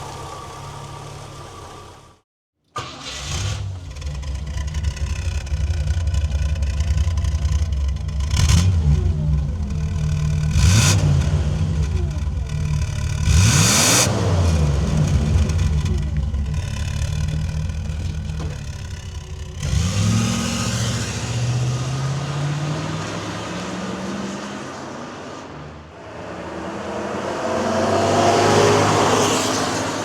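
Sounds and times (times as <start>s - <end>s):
car engine accelerating: 2.8s - 30.0s.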